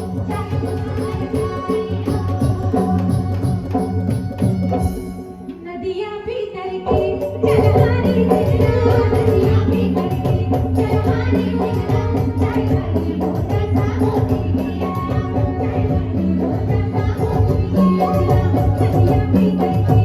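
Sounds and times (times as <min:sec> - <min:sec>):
fast drum and rattle beat: 0:00.0 - 0:05.2, 0:07.0 - 0:20.0.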